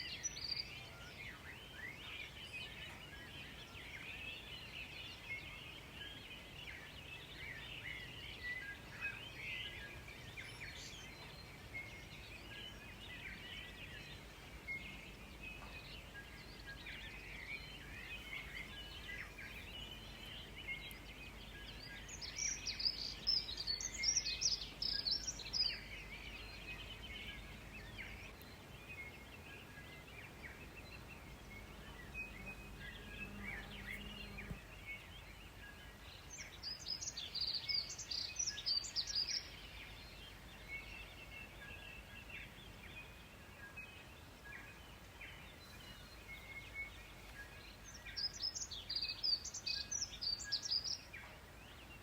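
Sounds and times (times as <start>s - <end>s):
faint bird chirps: 0.0s - 52.0s.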